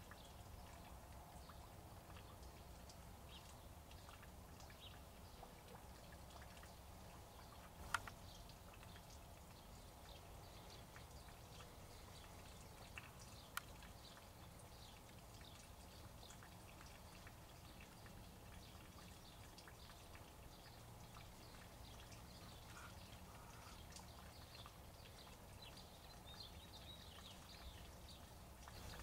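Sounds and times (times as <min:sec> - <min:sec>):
drip-like ticks: 0:00.0 - 0:29.0.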